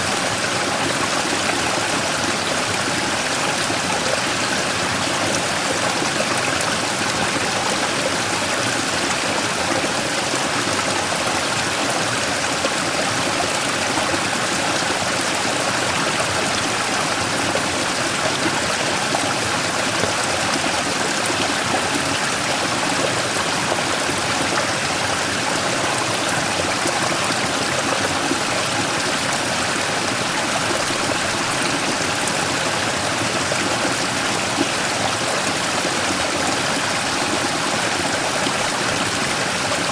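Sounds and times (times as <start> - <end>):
stream rushing over rock: 0.0 - 39.9.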